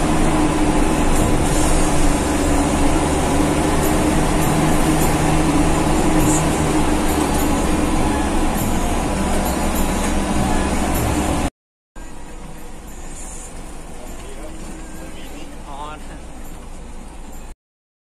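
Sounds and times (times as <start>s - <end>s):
diesel bus engine running: 0.0s - 17.6s
road and tyre noise: 0.0s - 17.6s.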